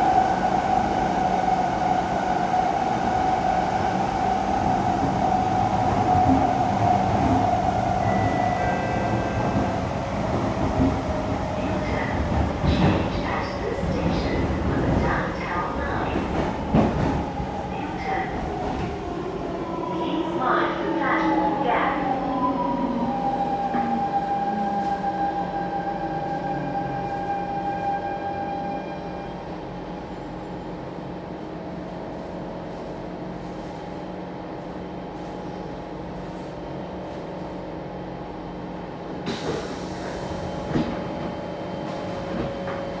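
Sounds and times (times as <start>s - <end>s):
train rolling rumble: 0.0s - 28.7s, 29.4s - 43.0s.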